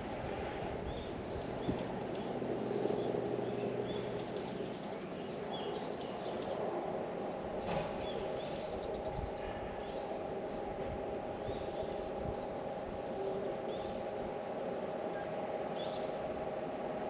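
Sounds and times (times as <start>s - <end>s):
outdoor background hum: 0.0s - 17.0s
birds chirping: 0.8s - 17.0s.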